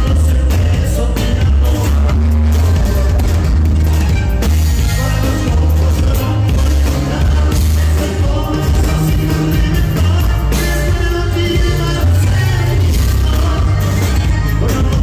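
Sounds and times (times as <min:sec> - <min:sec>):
person singing: 0:00.0 - 0:03.5, 0:04.7 - 0:15.0
live band playing through pa: 0:00.0 - 0:15.0.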